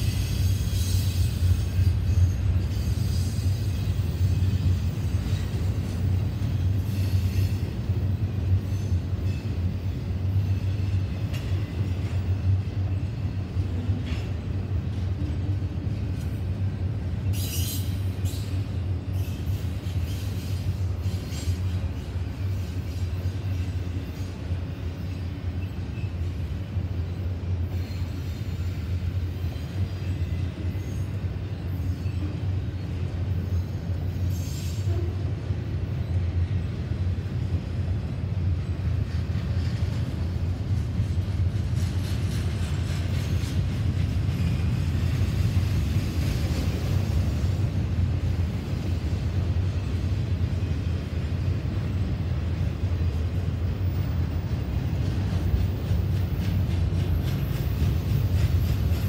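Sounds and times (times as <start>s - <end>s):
freight train rumbling on rails: 0.0s - 59.0s.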